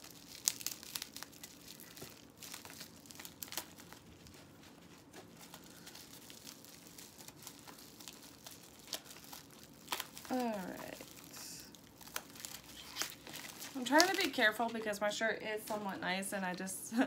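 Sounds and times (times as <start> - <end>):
plastic packaging crinkling and tearing: 0.0 - 16.6.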